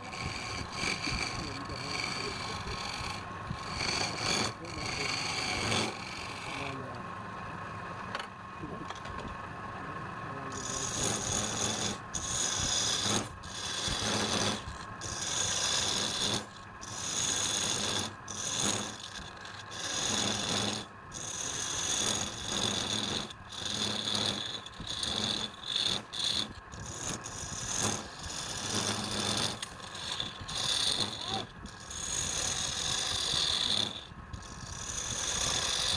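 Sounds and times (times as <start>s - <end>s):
rasp rubbing on wood: 0.0s - 6.8s, 10.5s - 35.9s.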